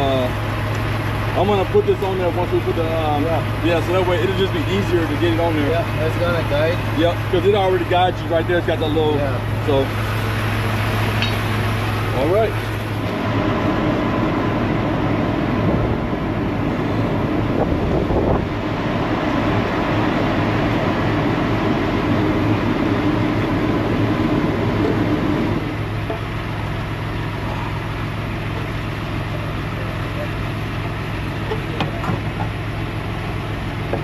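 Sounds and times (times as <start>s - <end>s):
low mechanical drone: 0.0s - 34.0s.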